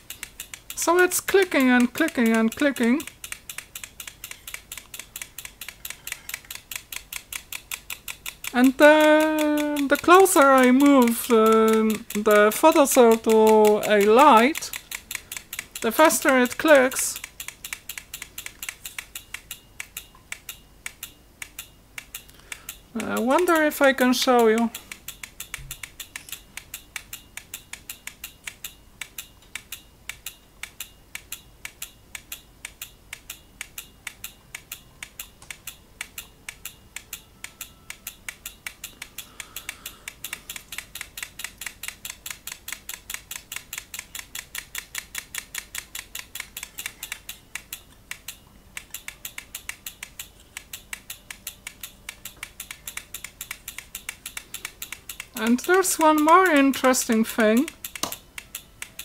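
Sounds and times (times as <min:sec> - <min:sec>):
timer mechanism clicking: 0:00.0 - 0:59.0.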